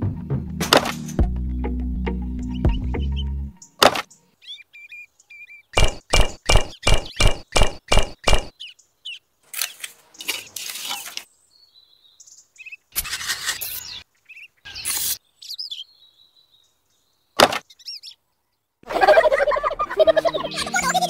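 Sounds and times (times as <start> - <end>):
birds chirping faintly: 1.0 - 21.0.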